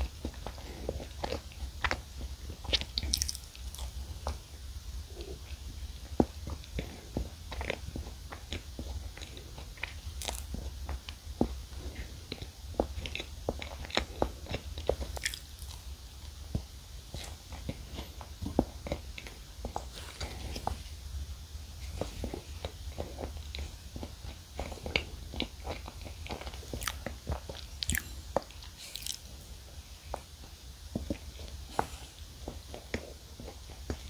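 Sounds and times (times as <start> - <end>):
close-up chewing sticky cake: 0.0 - 34.0.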